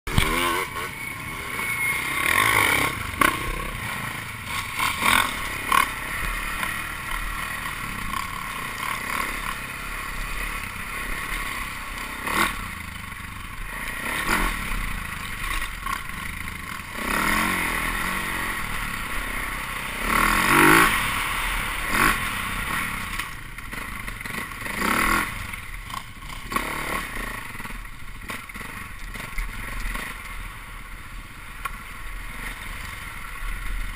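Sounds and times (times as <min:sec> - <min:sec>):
dirt bike engine revving: 0:00.1 - 0:30.7.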